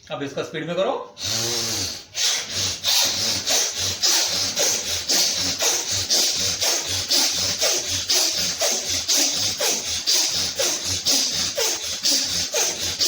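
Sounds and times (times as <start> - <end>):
rapid breathing through nose: 1.2 - 13.0.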